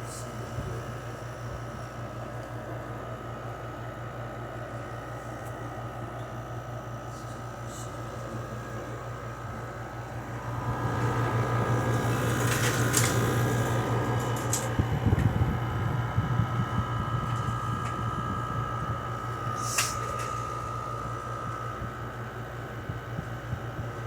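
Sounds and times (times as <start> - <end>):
air conditioner running: 0.0 - 24.0.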